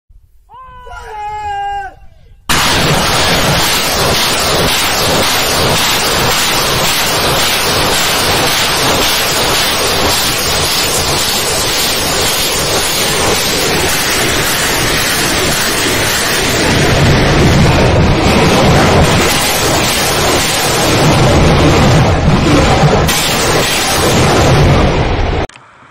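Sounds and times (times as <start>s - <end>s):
deep rumble: 2.5s - 25.5s
rockets launching roar: 2.5s - 25.5s.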